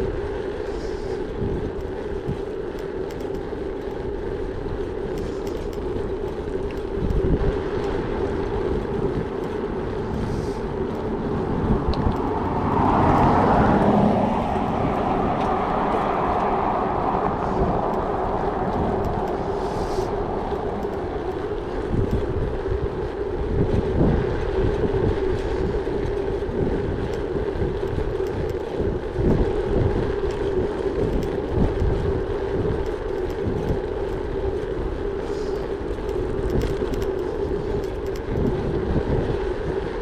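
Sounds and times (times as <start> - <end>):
bike tyres rolling: 0.0 - 40.0
wind buffeting microphone: 0.0 - 40.0.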